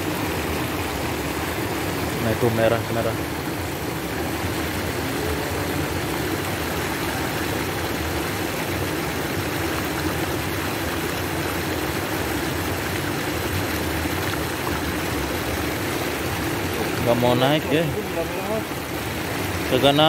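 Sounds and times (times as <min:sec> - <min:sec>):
water gushing into pond: 0:00.0 - 0:20.0.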